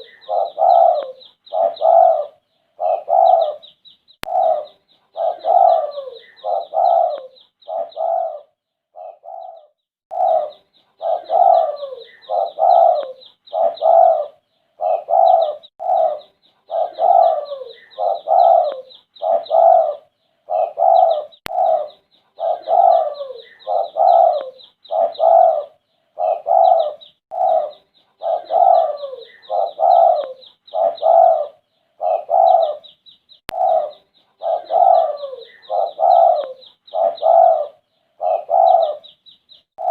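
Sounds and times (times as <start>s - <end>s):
dove cooing: 0.0s - 32.9s, 33.5s - 39.2s.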